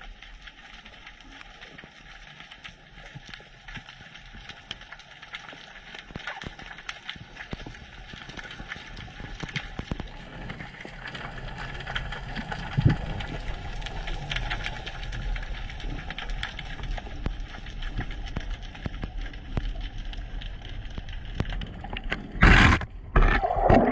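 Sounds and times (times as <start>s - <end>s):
underwater crackle of clicks: 0.0s - 23.9s.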